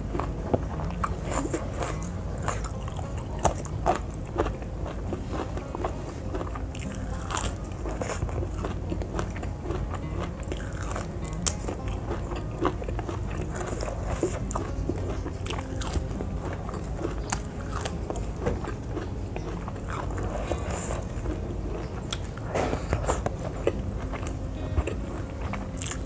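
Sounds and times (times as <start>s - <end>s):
crunchy biting of raw vegetables: 0.0s - 26.0s
wet chewing: 0.0s - 26.0s.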